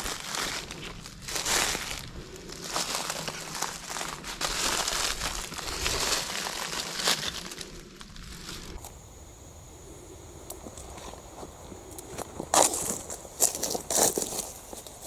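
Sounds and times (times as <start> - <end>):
footsteps crunching dry leaves: 0.0 - 9.0, 10.5 - 15.0.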